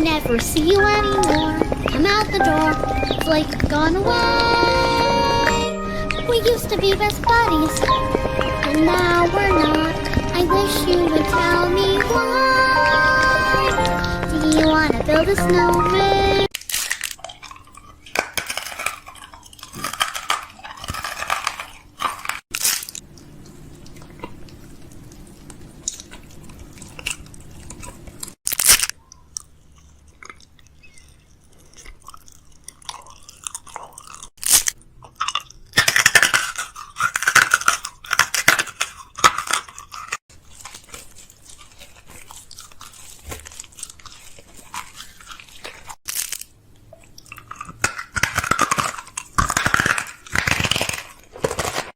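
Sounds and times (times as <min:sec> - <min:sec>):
crunchy food being chewed: 0:00.0 - 0:51.9.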